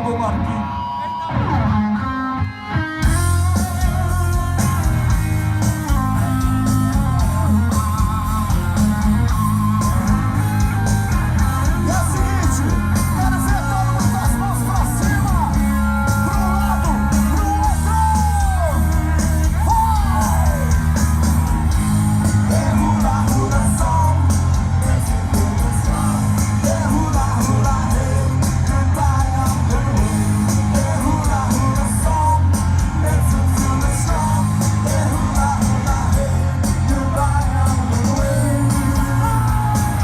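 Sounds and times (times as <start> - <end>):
bass guitar: 0.0 - 40.0
drums: 0.0 - 40.0
electric guitar: 0.0 - 40.0
person singing: 3.0 - 21.4, 22.0 - 40.0.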